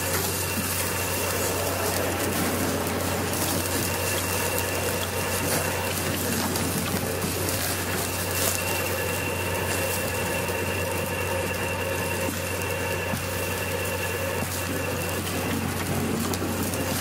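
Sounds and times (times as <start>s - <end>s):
electric motor hum: 0.0s - 17.0s
faint high whining tones: 0.0s - 17.0s.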